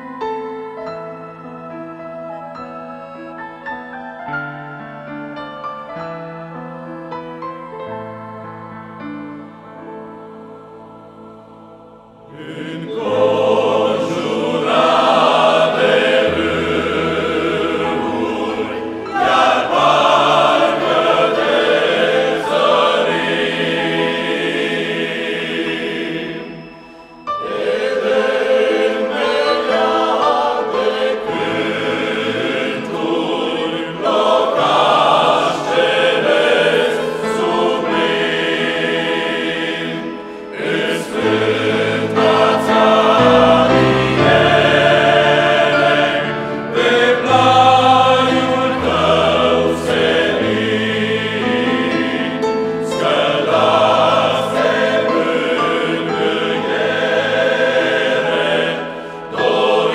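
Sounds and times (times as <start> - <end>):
male choir singing a hymn: 3.0 - 3.4, 8.0 - 59.9.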